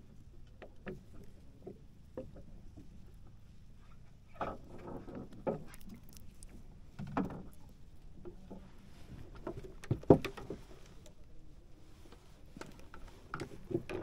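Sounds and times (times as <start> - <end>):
rustling and knocks on wooden boat: 0.4 - 11.1, 12.0 - 14.0.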